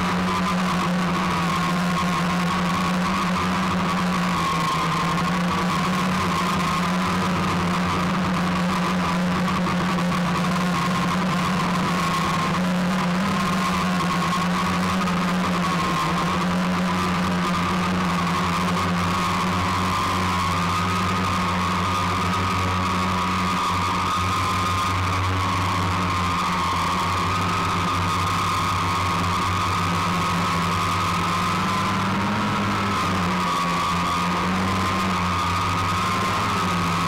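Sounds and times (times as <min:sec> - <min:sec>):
drone propellers whining: 0:00.0 - 0:37.0.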